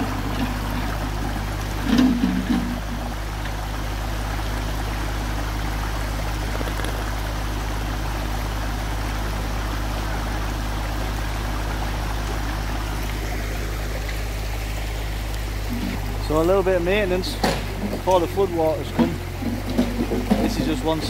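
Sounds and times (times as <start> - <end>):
diesel engine droning: 0.0 - 21.0
river water rushing over rocks: 0.0 - 21.0.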